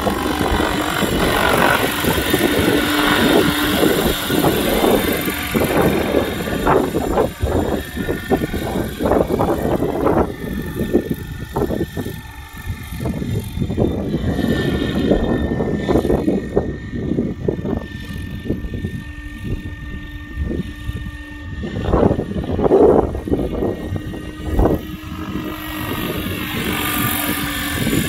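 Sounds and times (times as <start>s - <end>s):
model helicopter rotor whine: 0.0s - 28.0s
wind buffeting microphone: 0.0s - 28.0s.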